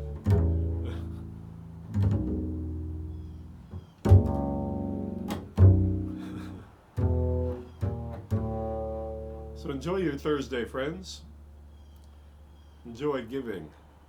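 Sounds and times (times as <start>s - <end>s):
low deep ringing instrument notes: 0.0s - 12.7s.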